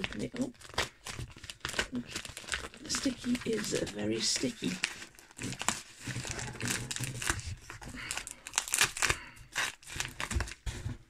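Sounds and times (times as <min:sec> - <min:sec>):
paper envelope tearing open: 0:00.0 - 0:10.8.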